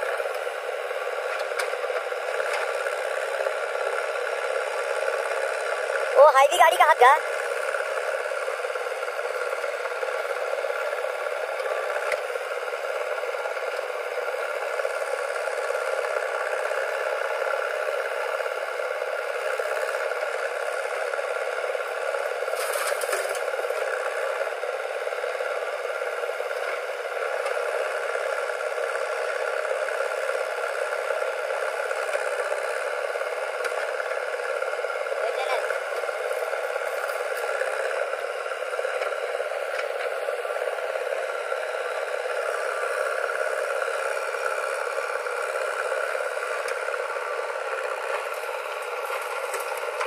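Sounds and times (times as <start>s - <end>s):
diesel engine running under load: 0.0s - 50.0s.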